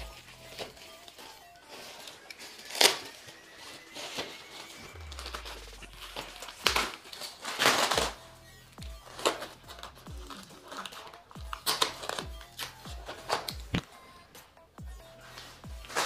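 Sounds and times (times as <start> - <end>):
plastic wrap crinkling: 0.0 - 8.3, 9.0 - 13.9, 15.2 - 16.0.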